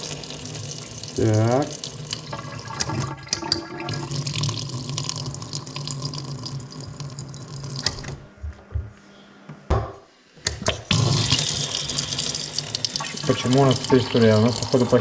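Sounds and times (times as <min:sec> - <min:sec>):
tap water running into sink: 0:00.0 - 0:08.2, 0:10.4 - 0:15.0.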